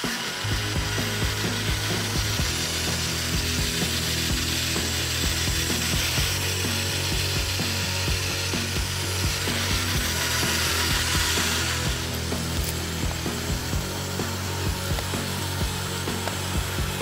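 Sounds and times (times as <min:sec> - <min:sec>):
electric motor hum: 0:00.0 - 0:17.0.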